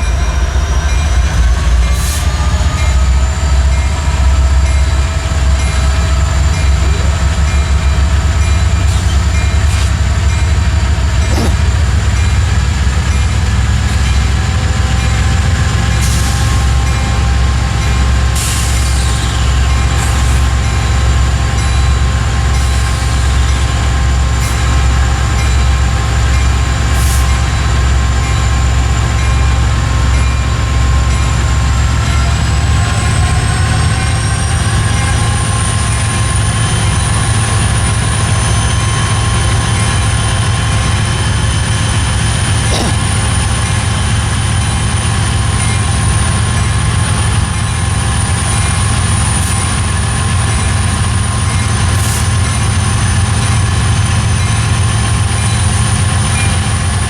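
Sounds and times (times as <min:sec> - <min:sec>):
train rumbling by: 0:00.0 - 0:57.0.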